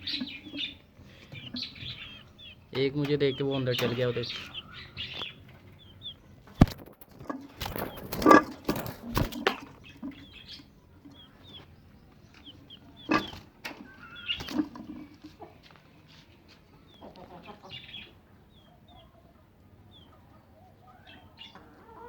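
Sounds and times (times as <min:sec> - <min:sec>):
chicks peeping: 0:00.0 - 0:22.0
hens clucking: 0:00.0 - 0:22.0.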